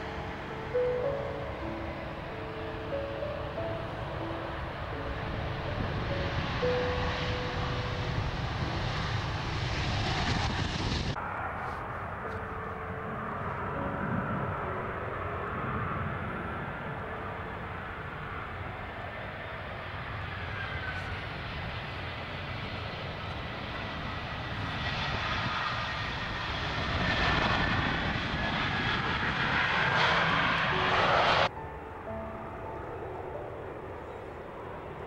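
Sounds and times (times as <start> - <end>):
jet engines rushing: 0.0 - 35.0.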